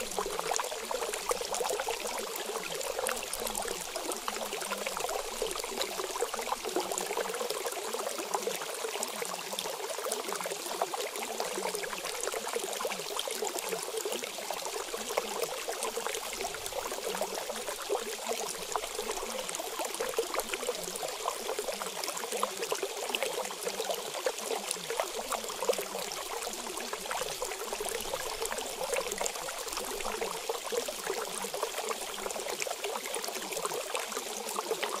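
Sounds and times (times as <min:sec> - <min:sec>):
trickling running water: 0:00.0 - 0:35.0.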